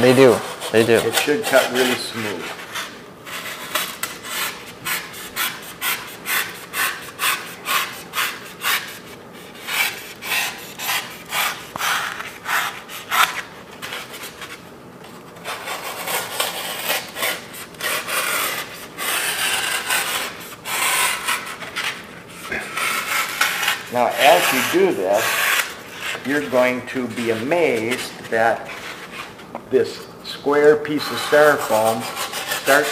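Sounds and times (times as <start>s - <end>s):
knife rasping foam: 0.0s - 14.5s, 15.4s - 29.3s, 30.9s - 32.9s.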